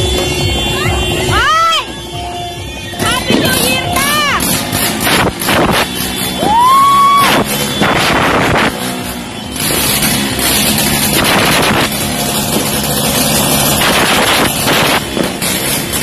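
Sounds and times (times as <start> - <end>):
firecrackers going off: 2.8 - 16.0.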